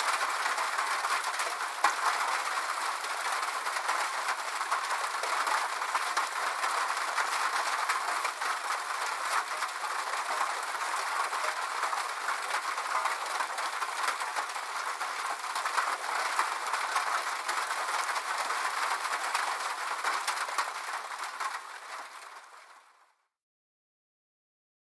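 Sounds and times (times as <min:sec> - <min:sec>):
rain on a metal roof: 0:00.0 - 0:23.2.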